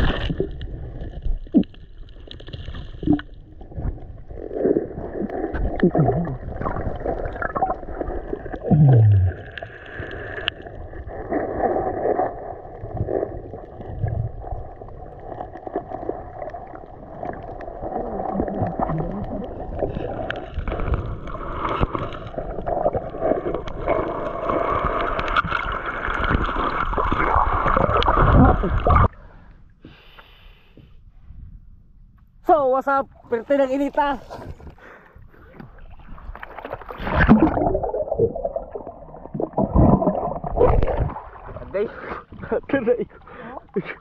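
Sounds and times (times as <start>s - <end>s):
underwater gurgling and sloshing: 0.0s - 44.0s.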